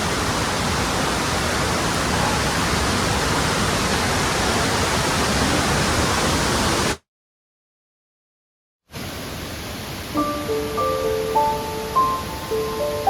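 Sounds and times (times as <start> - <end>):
waterfall rushing: 0.0 - 7.0, 9.0 - 13.0.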